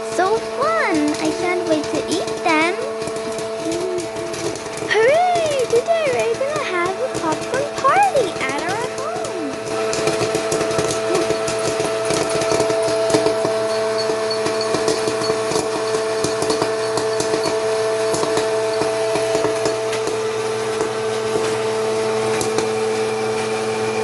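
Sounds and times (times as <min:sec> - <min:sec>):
corn kernels popping: 0:00.0 - 0:24.0
popcorn machine humming: 0:00.0 - 0:24.0.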